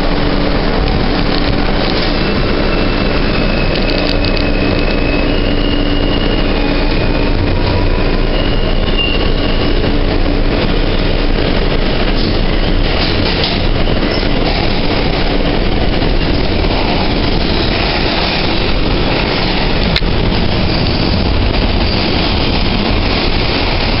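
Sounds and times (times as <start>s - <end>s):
subway car wheels rumbling on rails: 0.0s - 24.0s.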